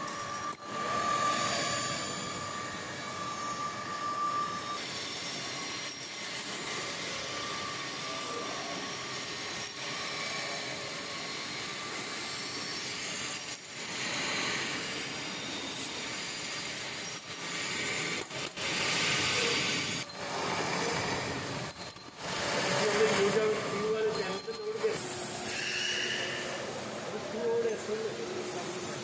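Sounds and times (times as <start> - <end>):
metal lathe running: 0.0 - 29.0.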